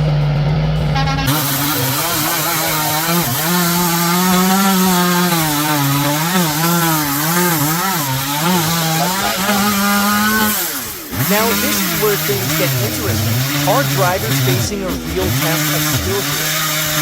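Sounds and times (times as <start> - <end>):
chainsaw cutting wood: 0.8 - 17.0.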